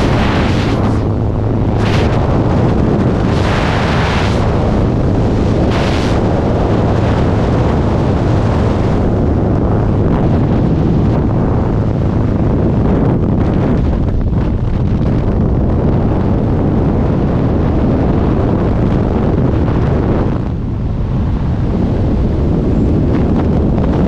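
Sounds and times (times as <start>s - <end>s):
aircraft engine drone: 0.0s - 24.0s
wind rushing over microphone: 0.0s - 24.0s.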